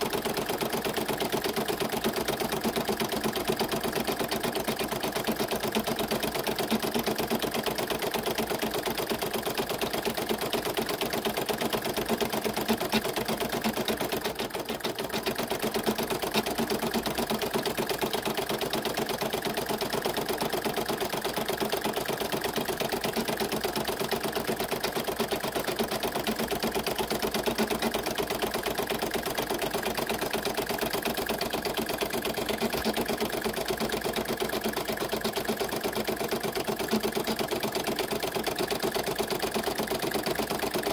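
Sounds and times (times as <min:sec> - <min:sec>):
embroidery machine stitching: 0:00.0 - 0:40.9.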